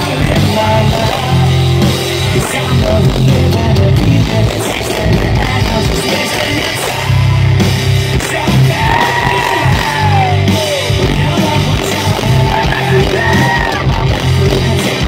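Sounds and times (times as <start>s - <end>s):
distorted electric guitar: 0.0s - 15.0s
hard rock band playing: 0.0s - 15.0s.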